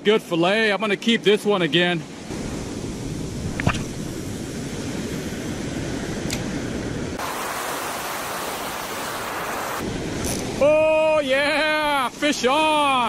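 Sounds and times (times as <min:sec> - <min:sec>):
ocean surf rushing: 0:01.6 - 0:13.0.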